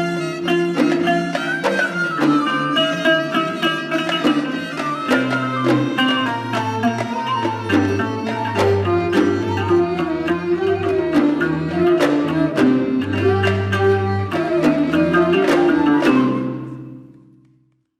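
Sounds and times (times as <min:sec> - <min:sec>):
string instruments playing melody: 0:00.0 - 0:17.5
hand drum strikes: 0:00.7 - 0:17.2.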